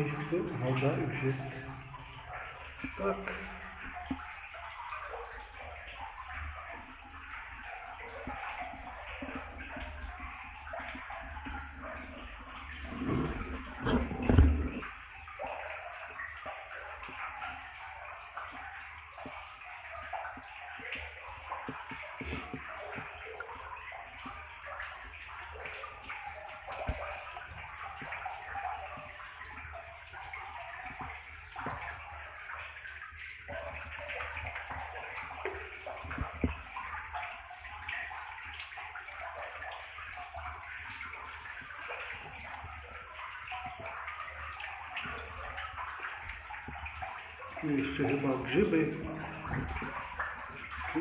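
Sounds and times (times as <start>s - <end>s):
water sloshing around wading legs: 0.0s - 51.0s.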